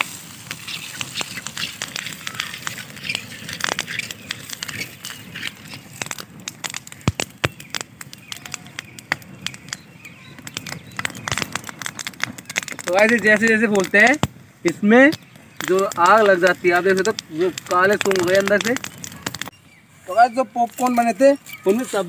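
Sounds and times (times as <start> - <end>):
popcorn popping: 0.0 - 19.5
fire crackling: 0.0 - 22.0.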